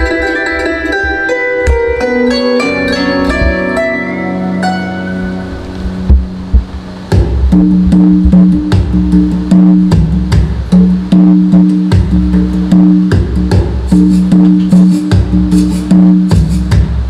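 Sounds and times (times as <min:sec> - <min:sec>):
instrumental music with guitar and drums: 0:00.0 - 0:17.0.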